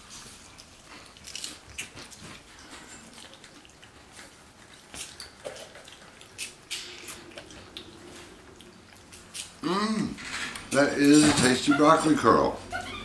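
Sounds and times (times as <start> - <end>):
snacks crunching while chewed: 0.0 - 10.8.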